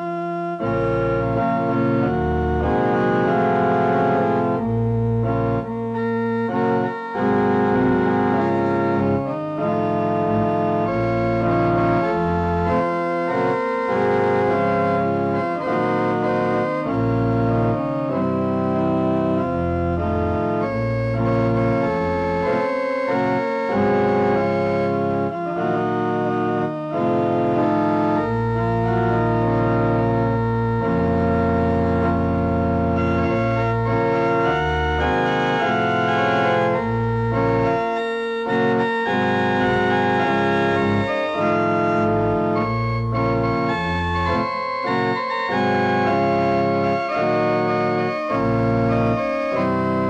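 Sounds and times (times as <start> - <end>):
electronic organ music: 0.0 - 50.0.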